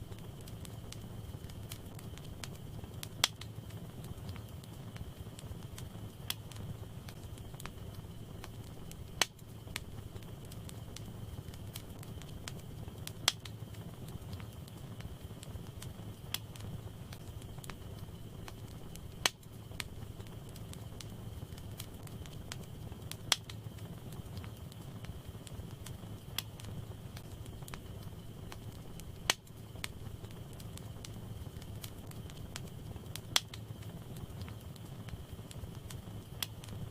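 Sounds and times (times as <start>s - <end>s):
crackles and pops of logs: 0.0s - 36.9s
wood fire burning: 0.0s - 36.9s.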